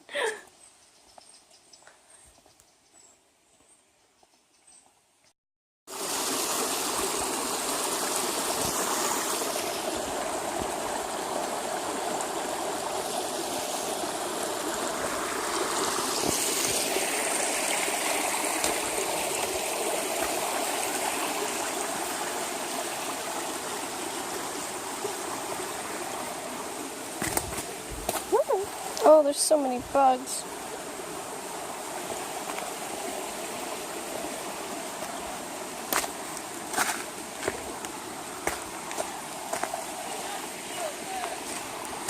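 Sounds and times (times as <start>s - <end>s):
stream flowing: 5.9s - 42.0s.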